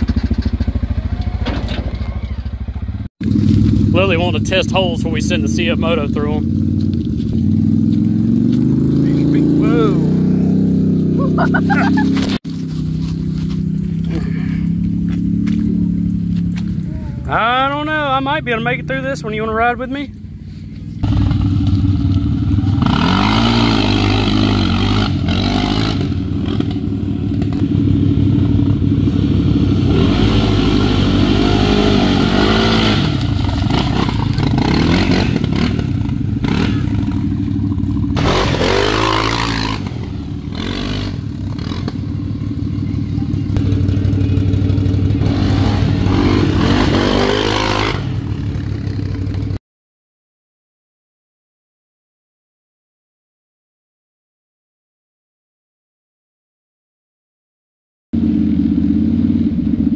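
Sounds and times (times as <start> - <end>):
atv engine revving: 0.0 - 49.6, 58.2 - 59.9
tires churning mud: 0.0 - 49.6.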